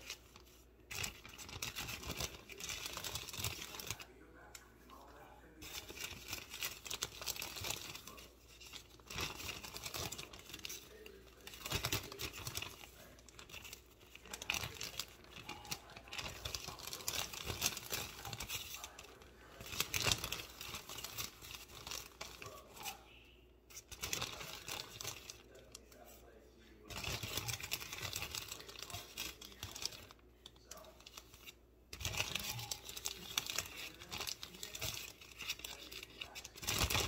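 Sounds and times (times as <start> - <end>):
crinkling and tearing: 0.0 - 23.0, 23.7 - 26.2, 26.8 - 37.0.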